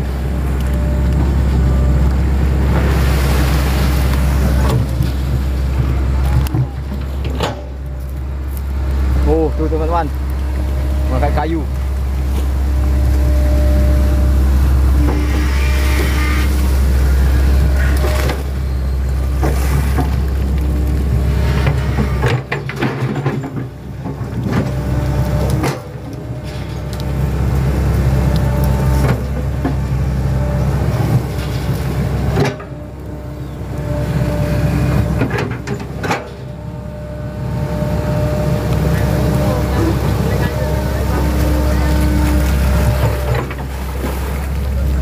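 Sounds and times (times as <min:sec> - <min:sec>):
excavator diesel engine under load: 0:00.0 - 0:45.0.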